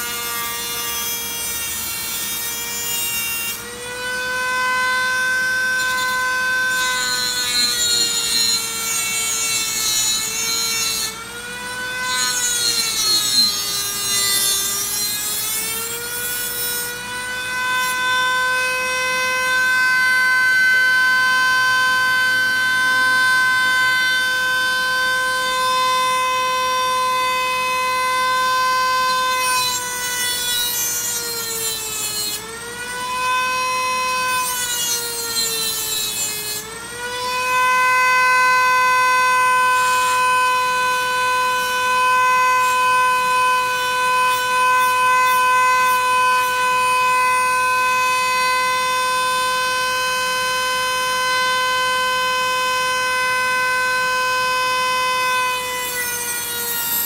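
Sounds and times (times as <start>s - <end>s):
cutting wheel grinding metal: 0.0s - 57.0s
rotary tool high whine: 0.0s - 57.0s.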